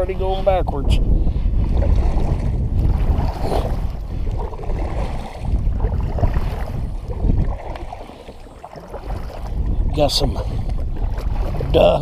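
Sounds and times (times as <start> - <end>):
wind rumbling on microphone: 0.0 - 12.0
paddle swishing in water: 1.2 - 12.0.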